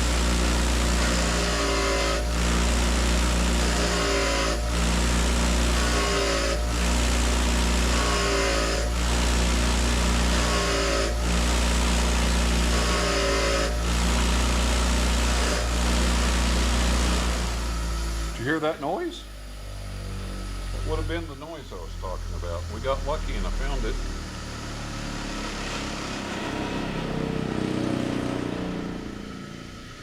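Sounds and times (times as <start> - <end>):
machine humming: 0.0 - 30.0.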